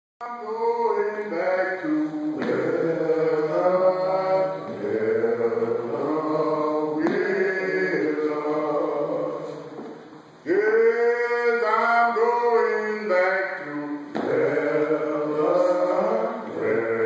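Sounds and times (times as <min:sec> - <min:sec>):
men singing work song: 0:00.2 - 0:17.0.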